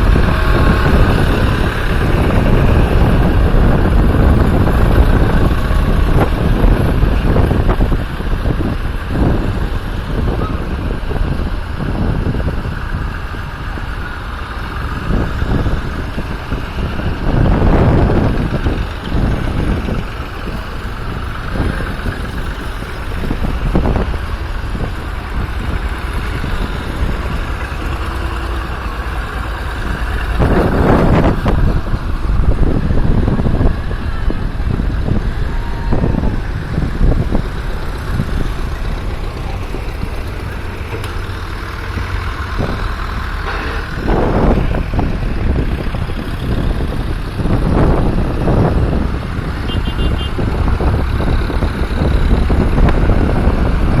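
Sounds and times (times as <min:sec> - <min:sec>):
tractor engines passing by: 0:00.0 - 0:54.0.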